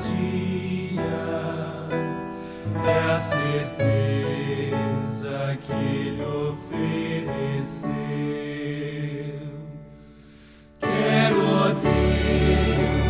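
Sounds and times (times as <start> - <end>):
hymn music: 0.0 - 13.0.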